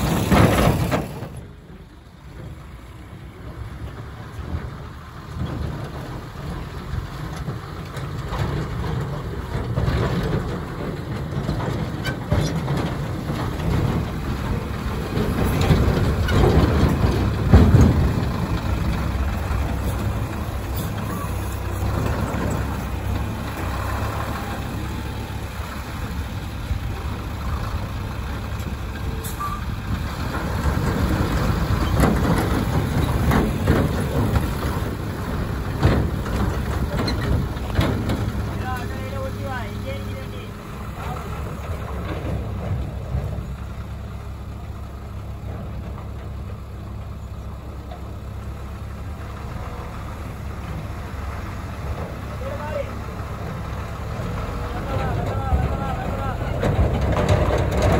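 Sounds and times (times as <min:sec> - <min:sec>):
diesel engines running: 0:00.0 - 0:57.9.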